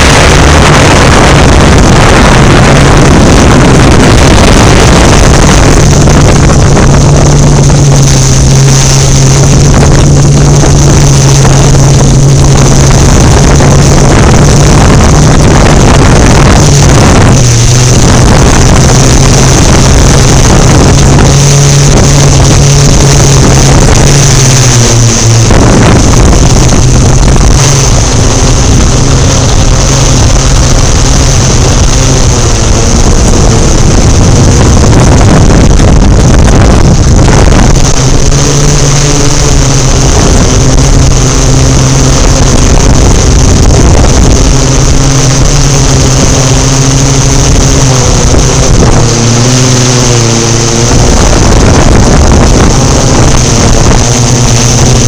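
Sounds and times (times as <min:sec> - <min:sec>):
drone motors and propellers whining: 0:00.0 - 0:55.0
wind buffeting: 0:00.0 - 0:55.0.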